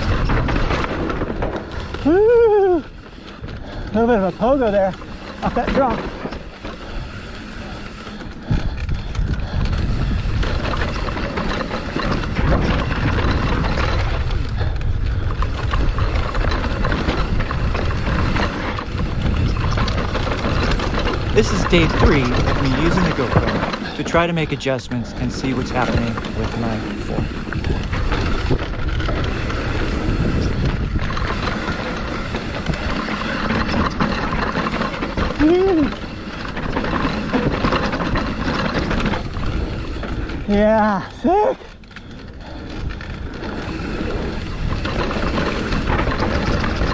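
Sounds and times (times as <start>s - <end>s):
clicks and rattles: 0.0s - 46.9s
tyres rumbling over dirt: 0.0s - 46.9s
wind buffeting microphone: 0.0s - 46.9s.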